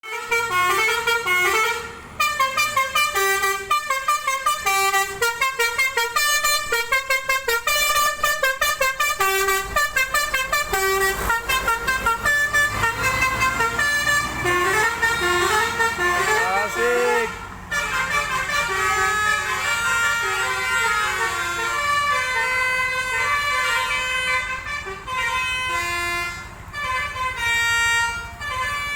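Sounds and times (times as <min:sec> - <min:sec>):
multi-tone bus horn tune: 0:00.0 - 0:28.9.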